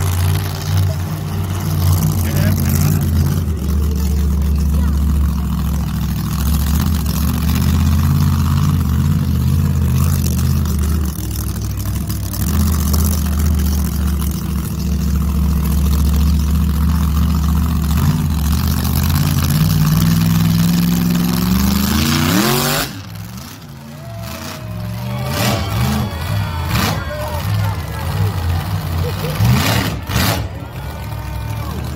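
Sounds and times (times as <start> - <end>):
truck engine rumbling and revving: 0.0 - 31.9.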